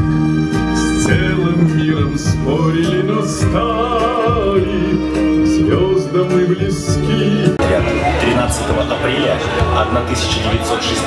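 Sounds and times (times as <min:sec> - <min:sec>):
music with singing voice: 0:00.0 - 0:11.0.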